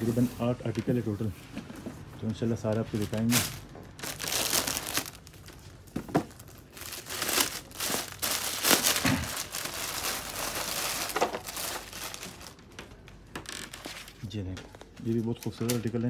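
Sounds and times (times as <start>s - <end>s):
plastic wrapping crinkling: 2.3s - 16.0s.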